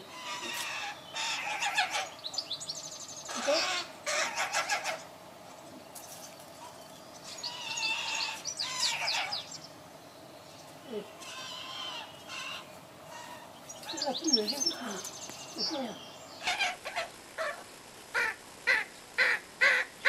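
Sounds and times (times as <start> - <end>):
crow rasping begging calls: 0.0 - 2.5, 3.2 - 5.2, 6.6 - 9.7, 10.9 - 20.0.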